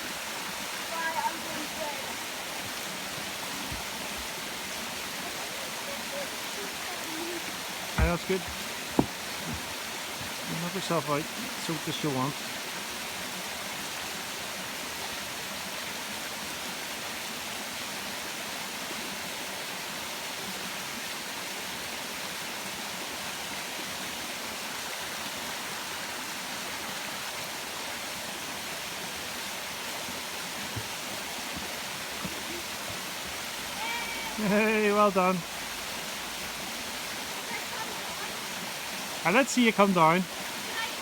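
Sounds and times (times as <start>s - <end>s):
waterfall rushing: 0.0s - 18.2s, 24.4s - 41.0s.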